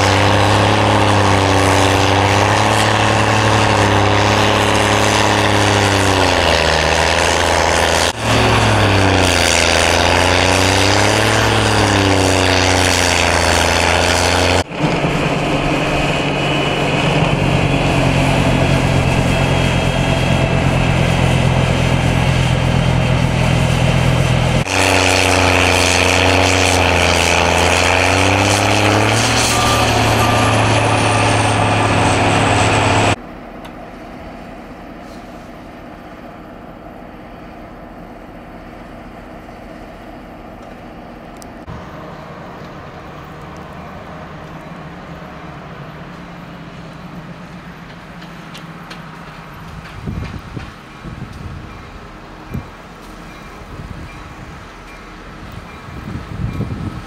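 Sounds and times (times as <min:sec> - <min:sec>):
small tractor with snowblower: 0:00.0 - 0:57.0
wheel loader diesel engine: 0:00.0 - 0:57.0.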